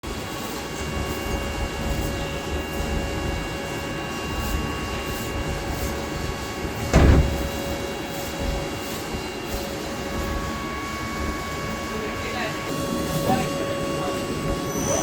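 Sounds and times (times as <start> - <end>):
lathe humming and whining: 0.1 - 15.0.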